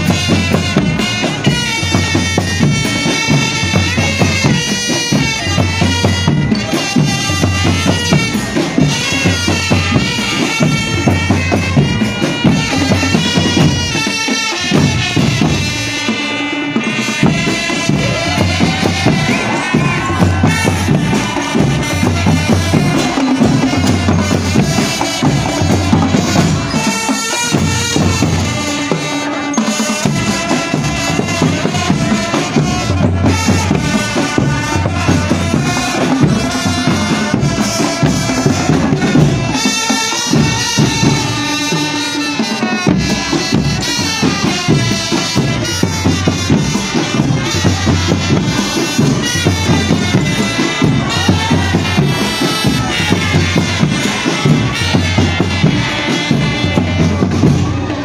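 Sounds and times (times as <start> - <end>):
bass drums: 0.0 - 16.0, 17.0 - 28.8, 30.0 - 41.6, 42.7 - 58.0
marching band melody: 0.0 - 58.0
snare drums: 0.0 - 58.0.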